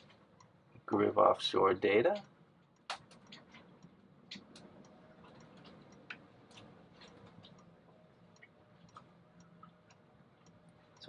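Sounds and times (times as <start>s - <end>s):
light clicks and ticks: 0.0s - 11.0s
low steady hum: 0.0s - 11.0s.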